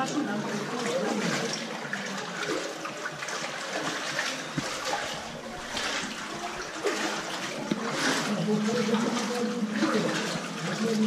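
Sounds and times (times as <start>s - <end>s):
person wading through water: 0.0s - 11.0s
water running through rock channel: 0.0s - 11.0s.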